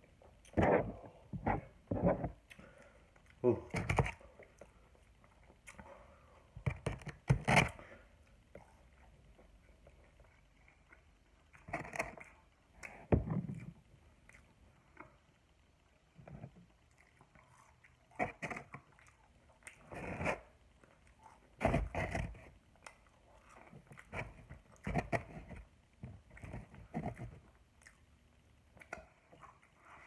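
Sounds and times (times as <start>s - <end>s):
biting and chewing food: 0.1s - 30.0s.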